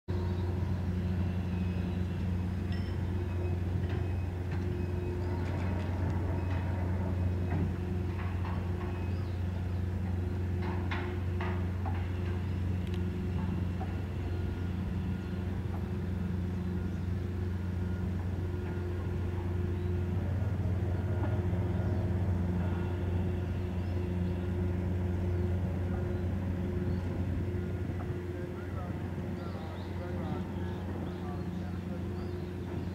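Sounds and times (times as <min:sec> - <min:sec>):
diesel machinery humming: 0:00.1 - 0:32.9.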